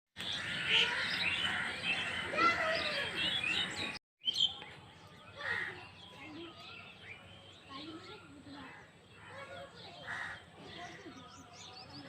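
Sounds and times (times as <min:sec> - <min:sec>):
birds chirping and calling: 0:00.2 - 0:12.0.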